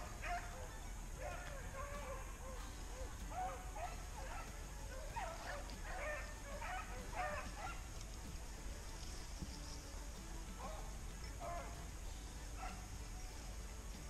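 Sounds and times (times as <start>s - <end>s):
distant hounds baying: 0.0s - 13.9s.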